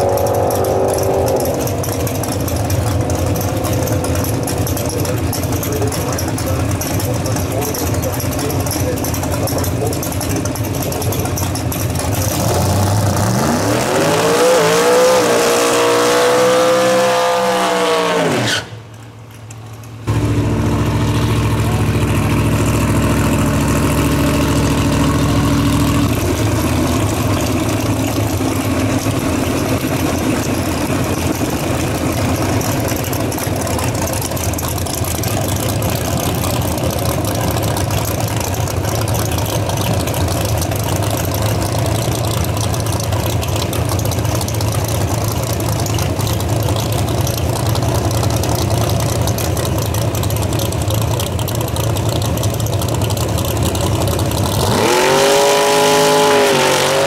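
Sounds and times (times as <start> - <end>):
engine holding steady note: 0.0 - 14.0, 18.7 - 57.0
car engine idling choppy: 0.0 - 17.1, 18.8 - 57.0.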